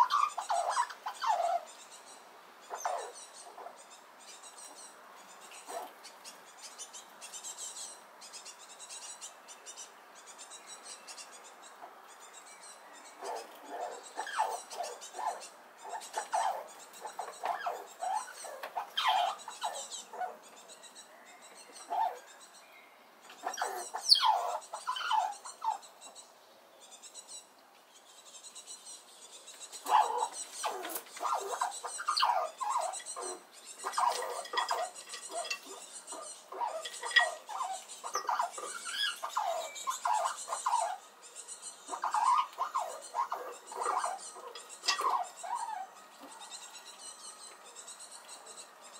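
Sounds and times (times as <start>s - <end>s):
squirrel squeaky calls: 0.0s - 21.0s, 23.2s - 27.5s, 28.2s - 48.9s.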